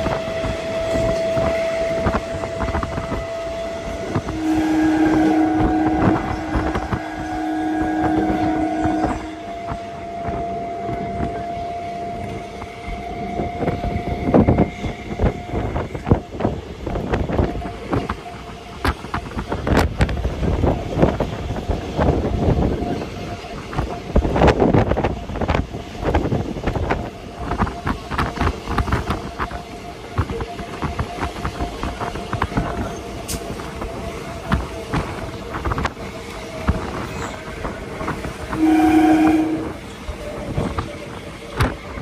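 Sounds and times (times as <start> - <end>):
train wheels clacking: 0.0 - 42.0
wind on microphone: 0.0 - 42.0.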